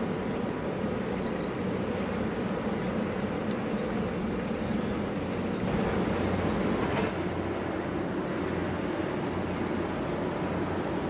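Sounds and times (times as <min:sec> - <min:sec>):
distant mechanical drone: 0:00.0 - 0:11.0
high-pitched hiss: 0:00.0 - 0:11.0.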